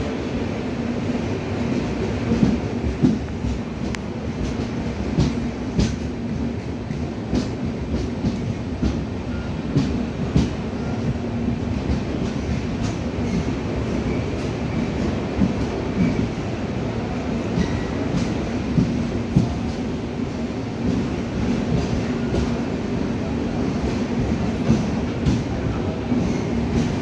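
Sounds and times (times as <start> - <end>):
train coach rumble and hum: 0.0 - 27.0.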